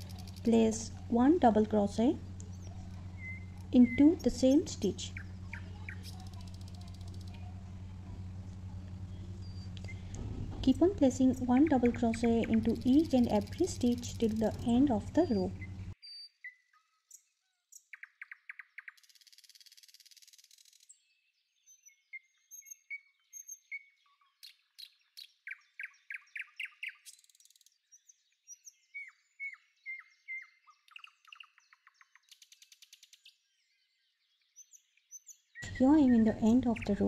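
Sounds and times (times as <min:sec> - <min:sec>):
birds chirping and trilling: 0:00.0 - 0:37.0.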